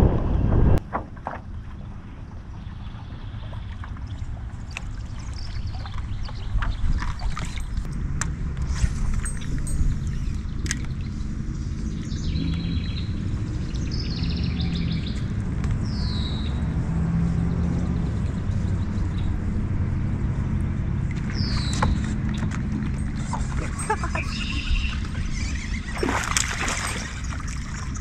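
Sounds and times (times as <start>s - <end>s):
steady low rumble: 0.0s - 28.0s
small birds singing: 1.5s - 7.9s, 9.2s - 28.0s.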